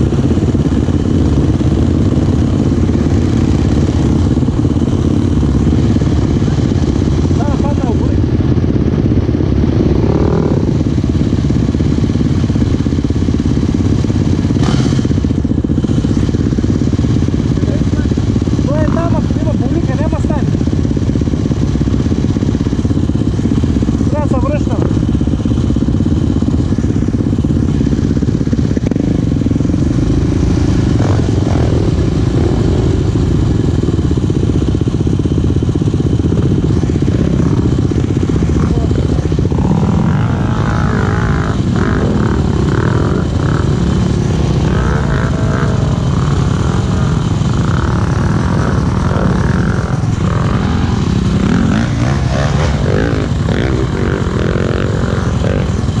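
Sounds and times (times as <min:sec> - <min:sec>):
dirt bike engines running: 0:00.0 - 0:56.0
dirt bike revving: 0:00.0 - 0:56.0.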